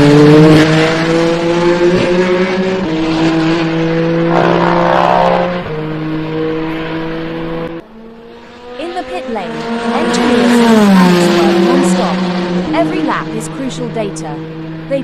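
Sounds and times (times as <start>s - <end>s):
passing engine with falling pitch: 0.0s - 15.0s
race car engine running: 0.0s - 15.0s.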